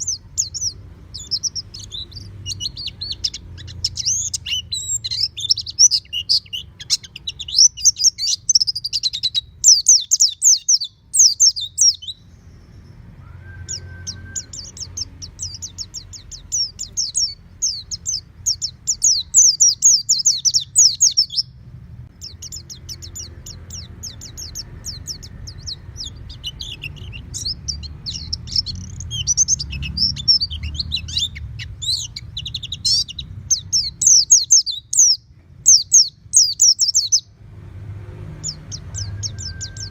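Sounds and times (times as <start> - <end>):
bird twittering chirps: 0.0 - 37.4, 38.3 - 39.9.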